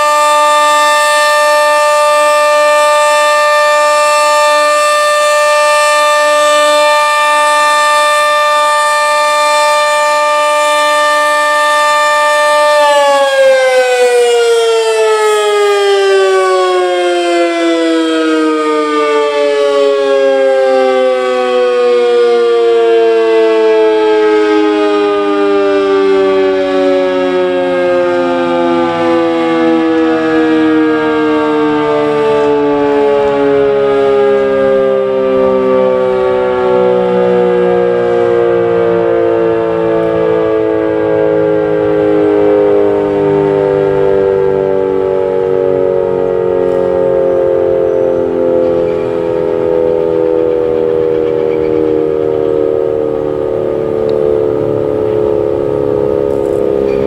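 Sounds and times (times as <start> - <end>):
warning siren winding down: 0.0 - 57.0.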